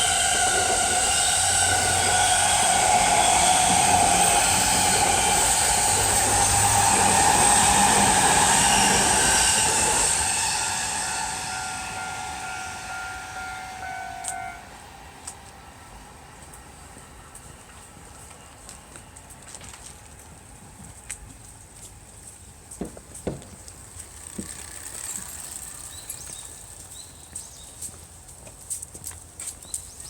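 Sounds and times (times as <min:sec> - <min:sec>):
train whine: 0:00.0 - 0:21.1, 0:23.3 - 0:27.4
electric train running past: 0:00.0 - 0:21.2, 0:22.4 - 0:27.7.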